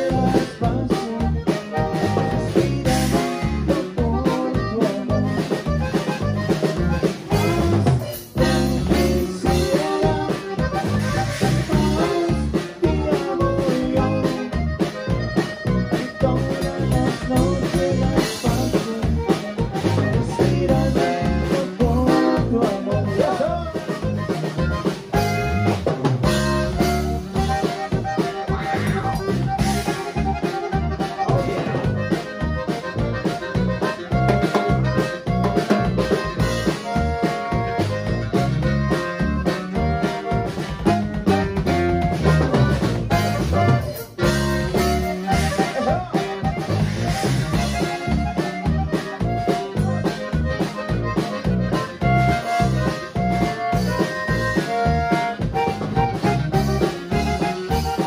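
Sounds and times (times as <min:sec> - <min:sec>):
button accordion: 0:00.0 - 0:58.0
drum kit: 0:00.0 - 0:58.0
electric bass: 0:00.0 - 0:58.0
guitar: 0:00.0 - 0:58.0.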